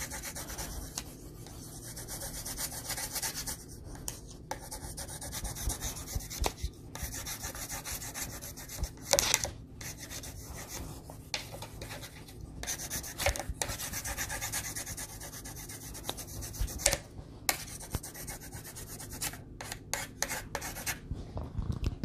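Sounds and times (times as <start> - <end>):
pencils scratching on paper: 0.0 - 21.0.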